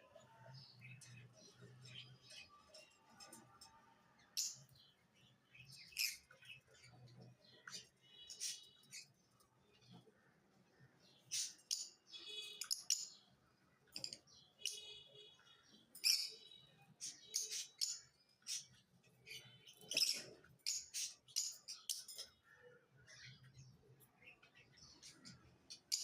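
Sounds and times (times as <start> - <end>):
lovebirds chirping: 0.0 - 26.0.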